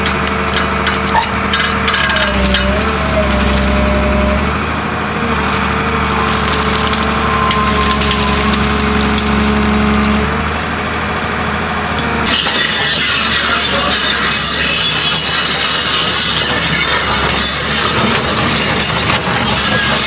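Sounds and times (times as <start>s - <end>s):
heavy machine engine running: 0.0s - 20.0s
whining tones: 1.1s - 4.6s, 5.3s - 10.3s, 12.0s - 20.0s.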